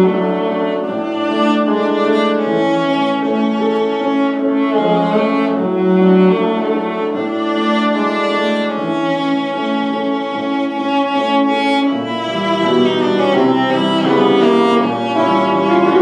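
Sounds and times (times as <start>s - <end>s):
bowed strings playing classical: 0.0s - 16.0s.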